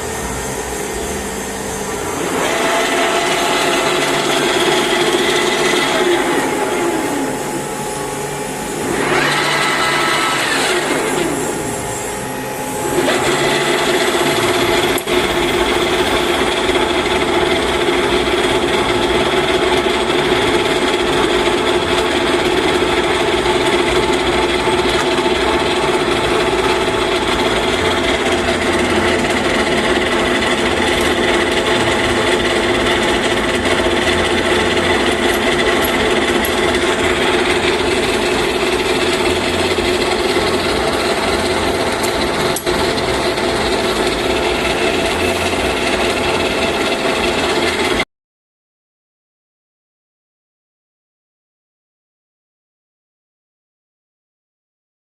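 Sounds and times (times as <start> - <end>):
lathe gearing whine: 0.0 - 48.0.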